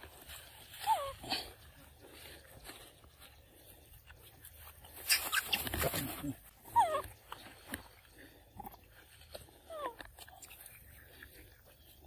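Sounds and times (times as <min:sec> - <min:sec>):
monkeys chewing and smacking: 0:00.0 - 0:12.0.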